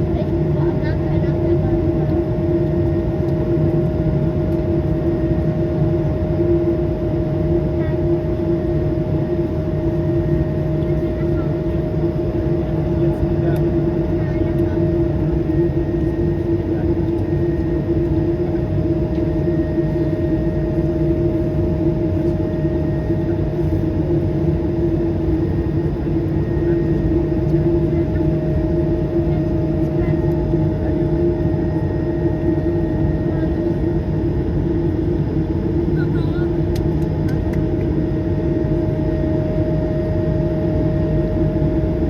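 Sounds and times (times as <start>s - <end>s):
aircraft cabin engine rumble: 0.0s - 42.0s.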